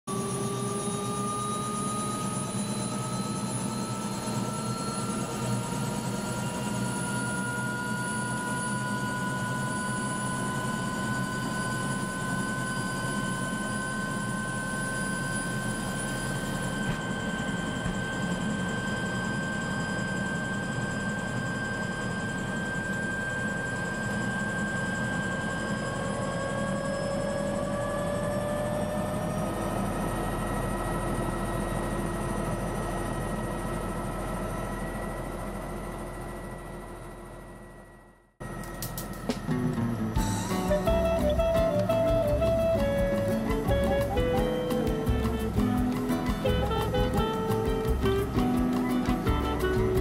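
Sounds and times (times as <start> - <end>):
helicopter turbine whine: 0.1 - 50.0.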